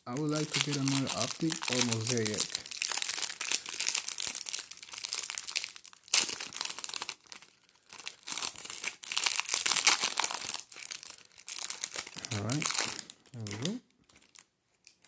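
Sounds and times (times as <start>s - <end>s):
plastic wrapper crinkling and tearing: 0.0s - 15.0s.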